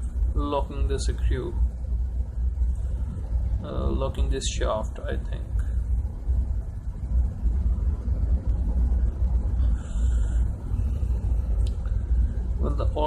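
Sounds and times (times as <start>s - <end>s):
faint higher noise: 0.0s - 13.0s
low rumble of machinery: 0.0s - 13.0s.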